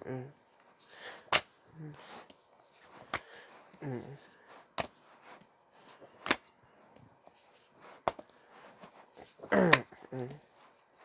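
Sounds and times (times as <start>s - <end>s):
comic books being handled: 0.6s - 11.0s.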